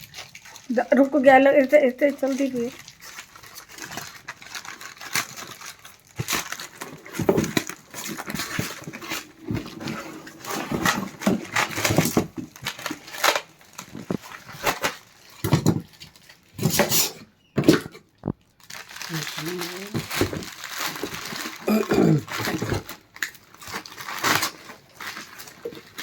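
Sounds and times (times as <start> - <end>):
packaging rustling: 0.0 - 26.0.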